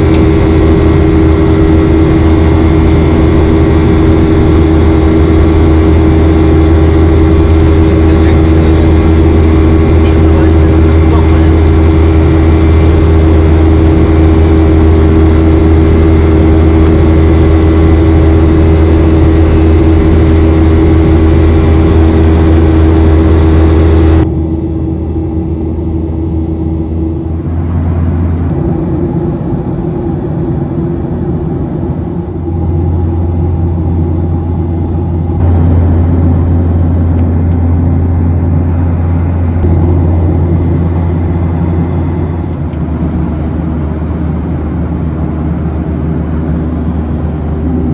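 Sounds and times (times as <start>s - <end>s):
jet engine drone in cabin: 0.0s - 47.9s.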